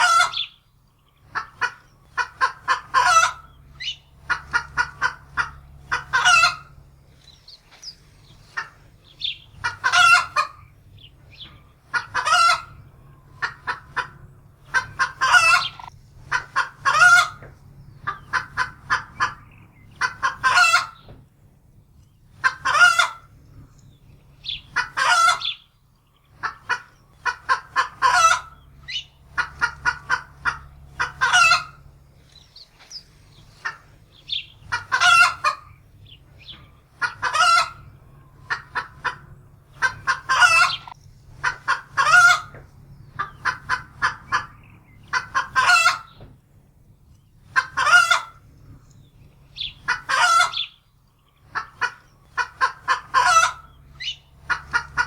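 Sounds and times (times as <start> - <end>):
hen cackling and squawking: 0.0 - 21.2, 22.2 - 46.3, 47.4 - 55.0.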